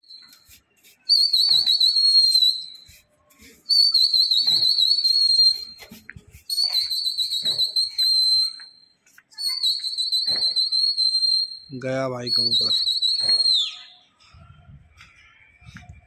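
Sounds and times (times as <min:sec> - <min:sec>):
person whistling shrilly: 0:00.0 - 0:14.1.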